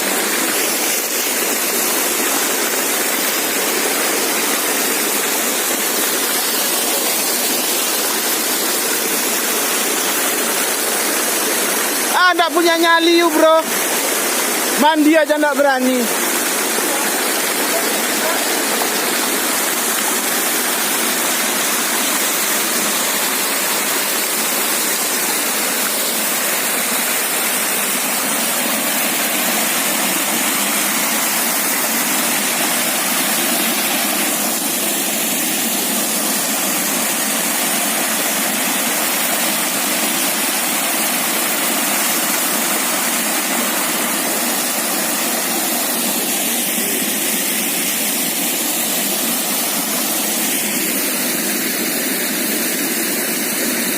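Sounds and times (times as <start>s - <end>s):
waterfall pouring into pool: 0.0s - 53.9s.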